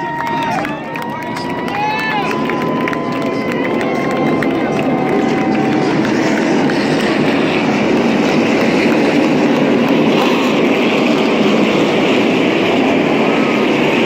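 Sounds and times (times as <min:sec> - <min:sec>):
race cars passing at full speed: 0:00.0 - 0:14.0.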